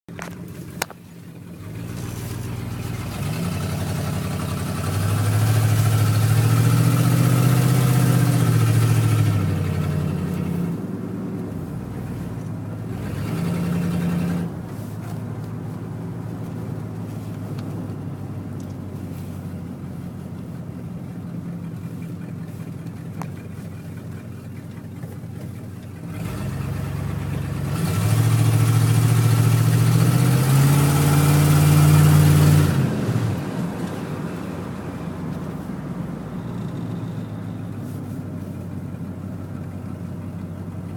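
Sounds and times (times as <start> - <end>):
car engine revving: 0.1 - 40.9.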